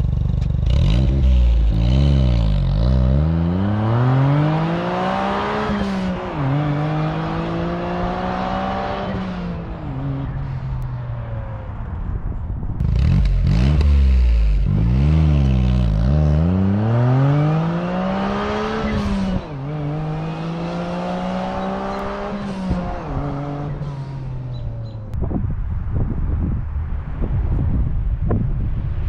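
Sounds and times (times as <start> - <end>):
car engine idling and revving: 0.0 - 25.2.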